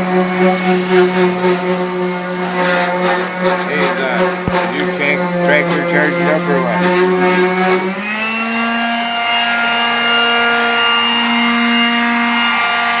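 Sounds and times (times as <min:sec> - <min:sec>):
power sander motor whine: 0:00.0 - 0:13.0.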